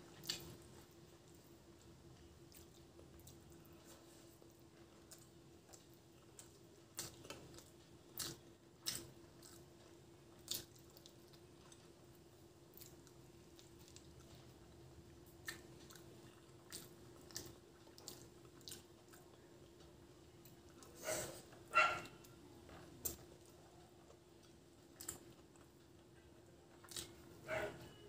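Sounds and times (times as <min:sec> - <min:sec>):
chewing and eating by hand: 0:00.0 - 0:28.0
faint steady hum: 0:00.0 - 0:28.0.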